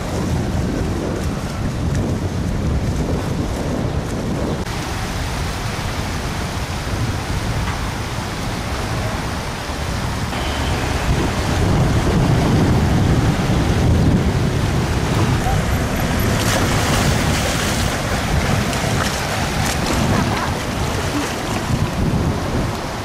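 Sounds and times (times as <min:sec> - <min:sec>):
water rushing: 0:00.0 - 0:23.0
wind buffeting microphone: 0:00.0 - 0:23.0.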